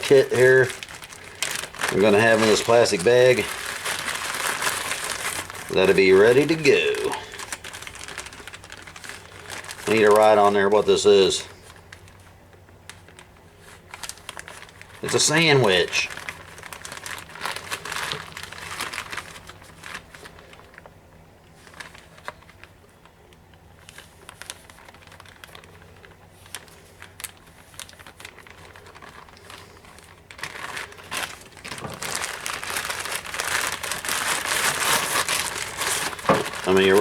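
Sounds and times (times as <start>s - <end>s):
plastic bag crinkling: 0.0s - 37.0s.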